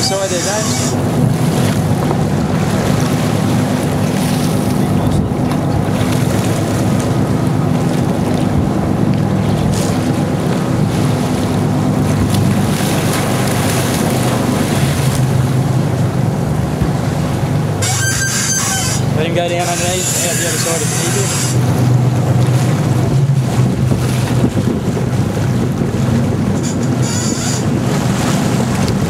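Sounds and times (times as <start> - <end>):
wind buffeting microphone: 0.0 - 17.8, 19.0 - 29.0
boat engines running: 0.0 - 29.0
water churning along hull: 0.0 - 29.0.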